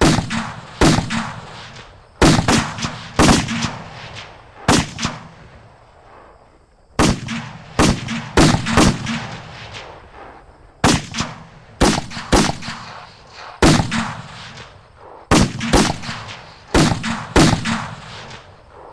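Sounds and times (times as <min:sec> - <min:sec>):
echoing gunshots: 0:00.0 - 0:06.4, 0:07.0 - 0:18.9.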